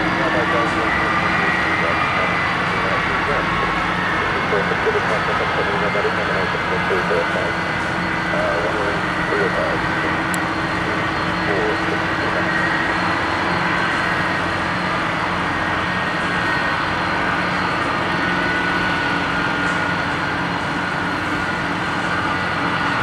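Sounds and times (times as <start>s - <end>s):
jet engines whining: 0.0s - 23.0s.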